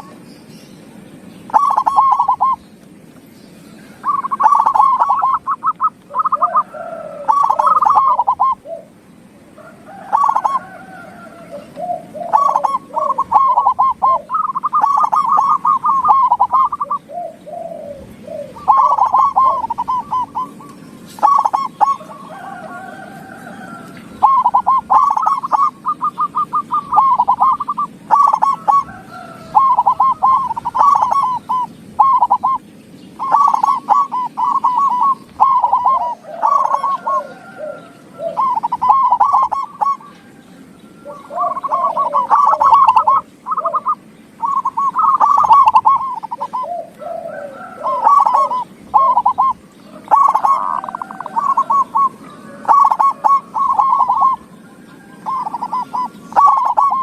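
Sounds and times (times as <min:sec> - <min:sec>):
lower-pitched dove cooing: 0:00.0 - 0:00.2, 0:01.5 - 0:02.7, 0:03.6 - 0:57.0
doves cooing: 0:00.0 - 0:57.0.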